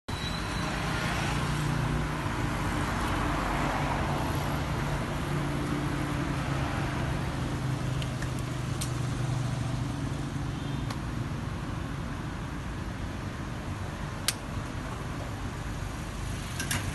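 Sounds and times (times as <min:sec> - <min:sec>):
street traffic: 0:00.1 - 0:16.9.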